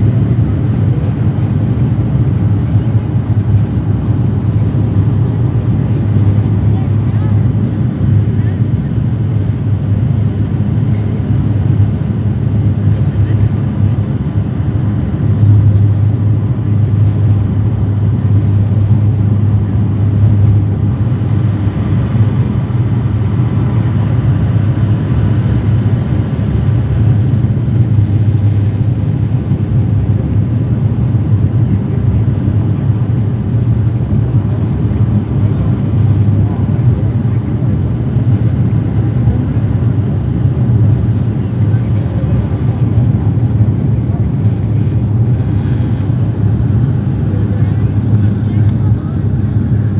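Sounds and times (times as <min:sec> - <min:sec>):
turboprop engines droning: 0:00.0 - 0:49.9.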